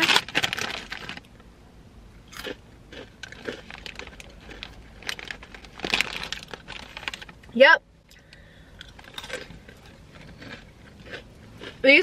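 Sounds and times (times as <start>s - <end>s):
crunching on crisp snack: 0.0s - 1.3s, 2.2s - 7.3s, 8.1s - 11.8s.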